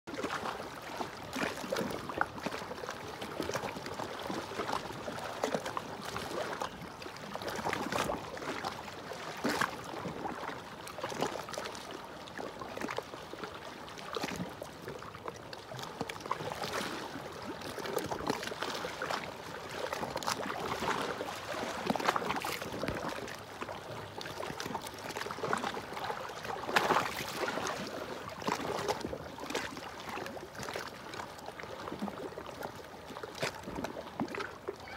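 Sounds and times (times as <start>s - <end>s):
waves lapping against rocks: 0.1s - 34.9s.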